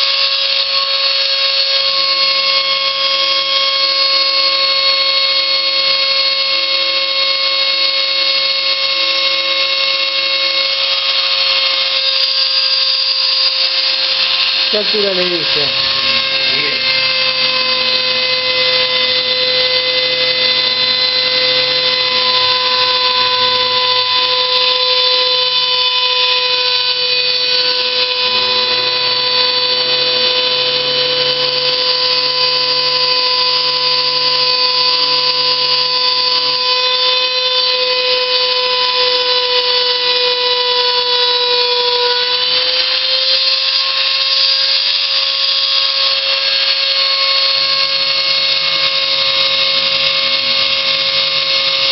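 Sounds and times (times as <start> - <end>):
motor high whine: 0.0 - 51.9.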